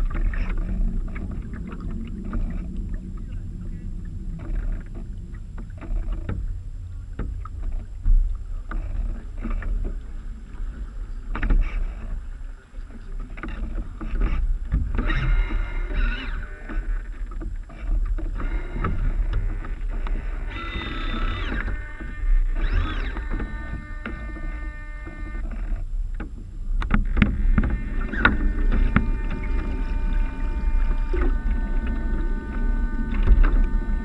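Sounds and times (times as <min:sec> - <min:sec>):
water splashing against hulls: 0:00.0 - 0:34.0
wind rumbling on microphone: 0:00.0 - 0:34.0.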